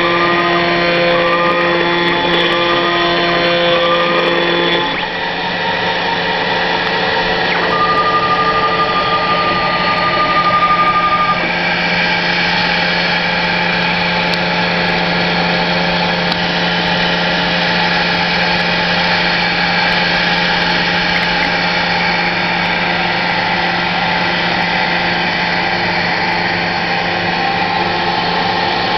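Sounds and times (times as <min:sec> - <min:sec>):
higher machine tone: 0:00.0 - 0:28.9
low hum: 0:00.0 - 0:28.9
machine mechanical whine: 0:00.0 - 0:28.9.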